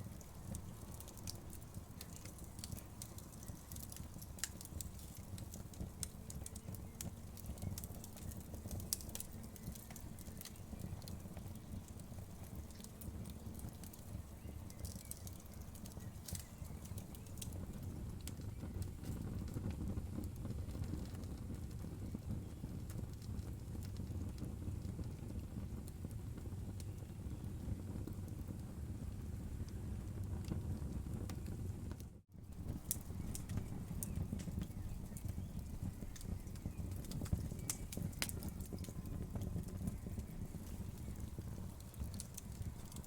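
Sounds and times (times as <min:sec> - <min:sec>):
low rumble of flames: 0:00.0 - 0:43.0
wood fire crackling: 0:00.0 - 0:43.0.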